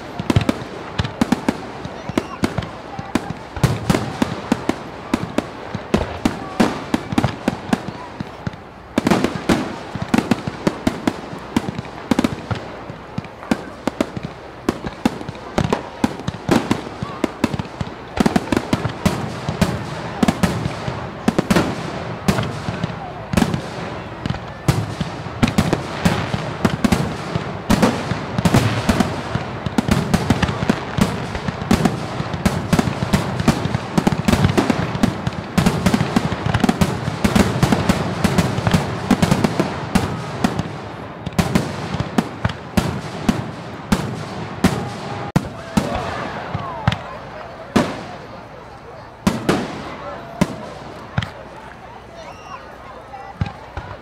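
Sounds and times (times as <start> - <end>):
fireworks bangs and crackles: 0.0 - 54.0
low fireworks booms: 0.0 - 54.0.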